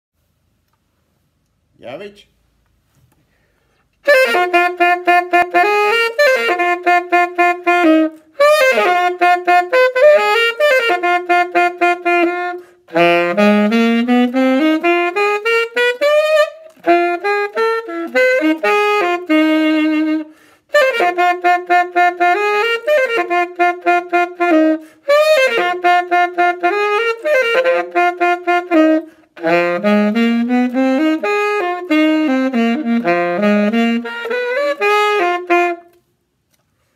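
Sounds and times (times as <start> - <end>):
solo saxophone funk riff: 4.0 - 36.0.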